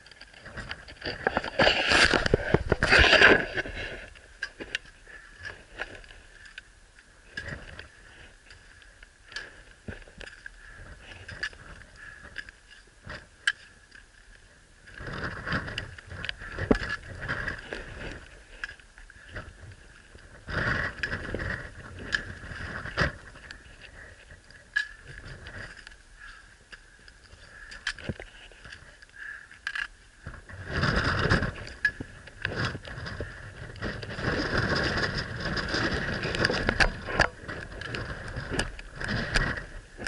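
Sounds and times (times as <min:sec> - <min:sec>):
rope and gear handling noise: 0:00.0 - 0:40.0.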